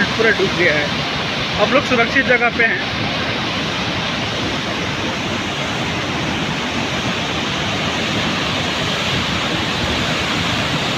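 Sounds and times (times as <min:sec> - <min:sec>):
river rushing: 0:00.0 - 0:10.9.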